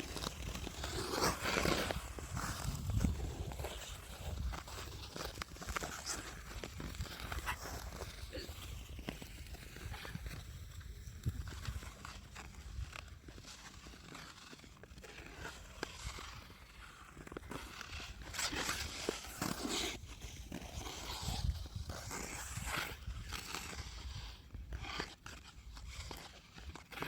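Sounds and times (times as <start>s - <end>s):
ice skate blades scraping on ice: 0.0s - 27.0s.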